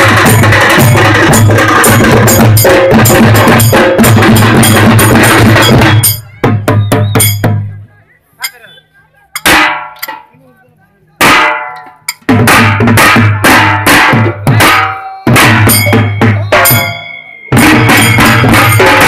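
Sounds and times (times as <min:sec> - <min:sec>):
group of drums playing: 0:00.0 - 0:08.7, 0:09.3 - 0:10.3, 0:11.2 - 0:19.0.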